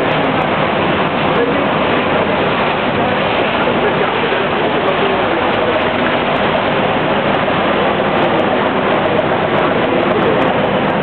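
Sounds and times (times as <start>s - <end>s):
boat engine running: 0.0s - 11.0s
water churning past hull: 0.0s - 11.0s.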